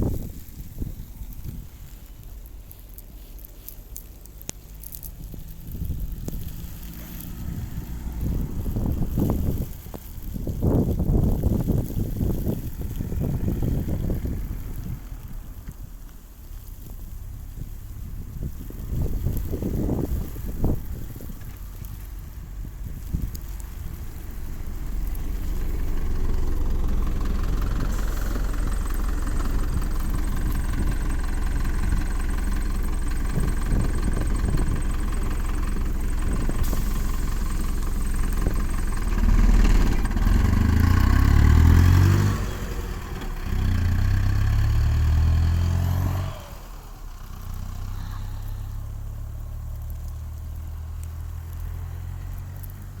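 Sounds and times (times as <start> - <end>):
vehicle engine revving: 4.7 - 15.8, 16.6 - 53.0.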